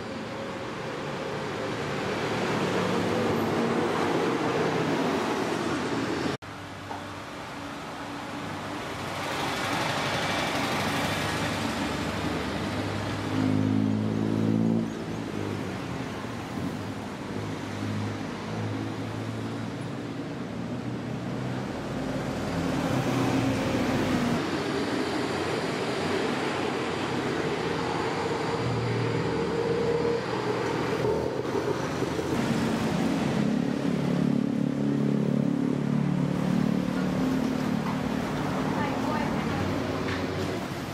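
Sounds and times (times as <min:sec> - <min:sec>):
cars passing: 0:00.0 - 0:40.9
road traffic: 0:00.0 - 0:40.9.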